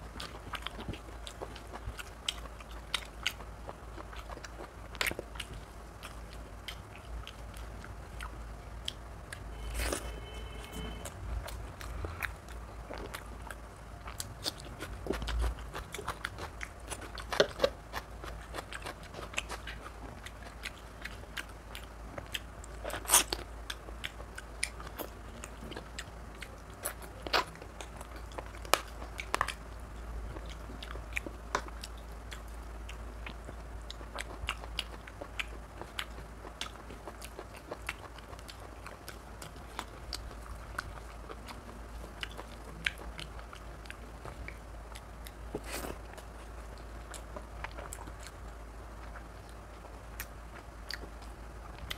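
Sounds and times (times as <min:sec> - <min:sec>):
wet chewing and mouth smacking: 0:00.0 - 0:51.9.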